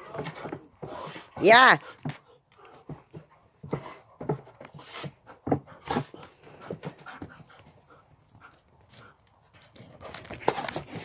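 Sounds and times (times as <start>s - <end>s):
dogs panting: 0.0s - 11.0s.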